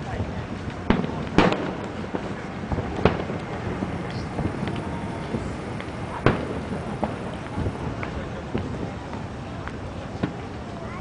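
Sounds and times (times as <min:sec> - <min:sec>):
fireworks bangs with echo: 0:00.0 - 0:10.7
steady background noise: 0:00.0 - 0:11.0.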